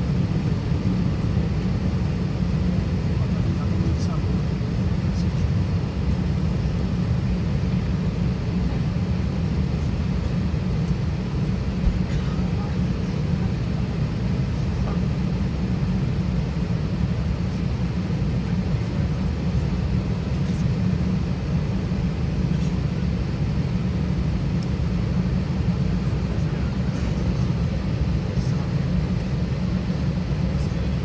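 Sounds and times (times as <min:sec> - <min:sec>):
aircraft cabin engine rumble: 0:00.0 - 0:31.0.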